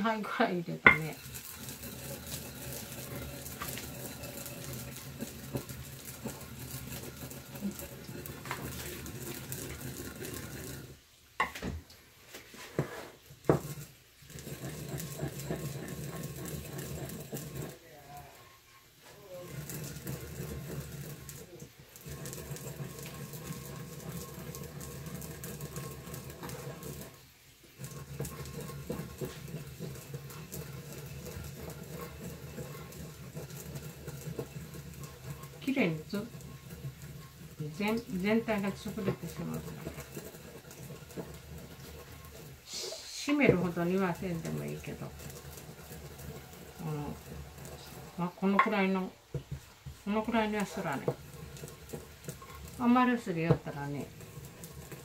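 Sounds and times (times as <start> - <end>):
pestle grinding seeds in mortar: 0.0 - 11.7, 12.3 - 55.0.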